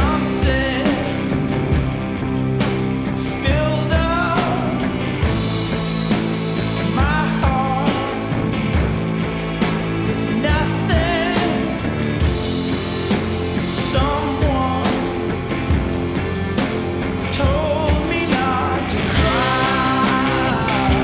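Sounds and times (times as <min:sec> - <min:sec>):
rock song with sung vocal: 0:00.0 - 0:21.0.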